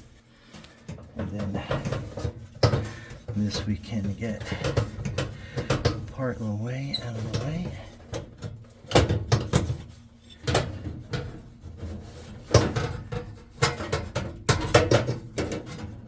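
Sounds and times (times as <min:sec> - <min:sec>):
sheet metal clanking and scraping: 0:00.8 - 0:16.0.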